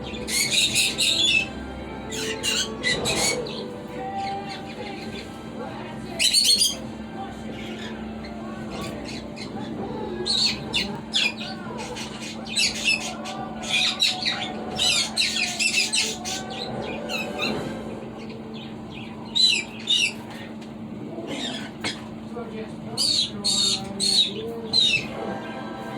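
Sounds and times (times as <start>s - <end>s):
parrots chirping and squawking: 0.0s - 22.2s, 22.9s - 25.4s
steady low hum: 0.0s - 25.9s.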